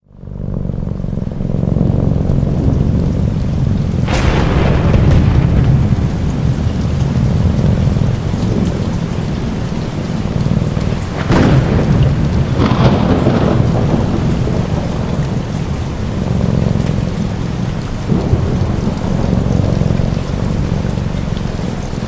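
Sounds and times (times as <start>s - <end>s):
steady rain: 0.0s - 22.0s
thunder rumbling: 0.0s - 22.0s
sharp thunder cracks: 1.6s - 22.0s.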